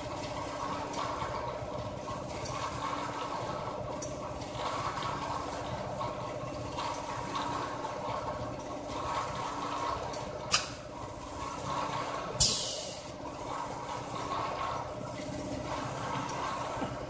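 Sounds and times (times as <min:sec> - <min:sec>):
liquid filling jugs: 0:00.0 - 0:17.0
machine hum: 0:00.0 - 0:17.0.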